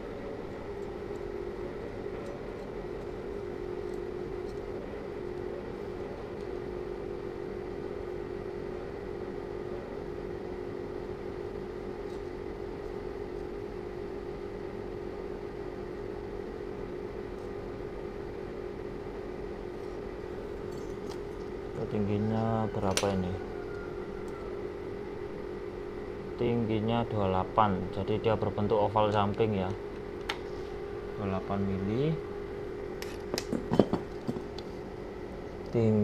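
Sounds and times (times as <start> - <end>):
mechanical motor hum: 0.0 - 36.0.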